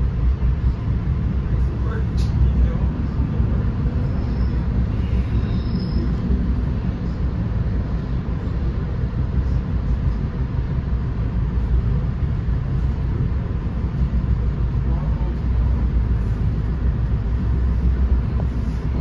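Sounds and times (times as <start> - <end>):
train coach rumbling on rails: 0.0 - 19.0.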